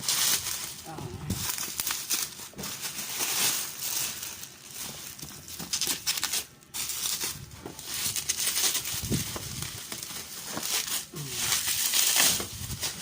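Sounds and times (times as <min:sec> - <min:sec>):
plastic wrapping crinkling and tearing: 0:00.0 - 0:13.0.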